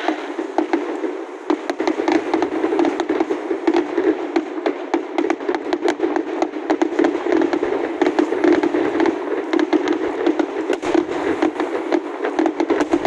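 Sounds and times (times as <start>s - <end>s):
fireworks cracks and bangs: 0.0s - 13.0s.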